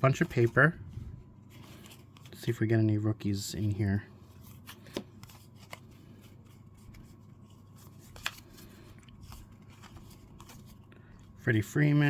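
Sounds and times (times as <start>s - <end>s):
cards rustling: 0.0s - 12.0s.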